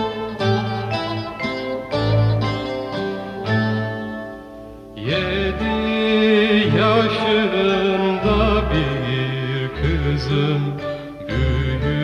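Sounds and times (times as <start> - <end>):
song with plucked strings: 0.0 - 12.0.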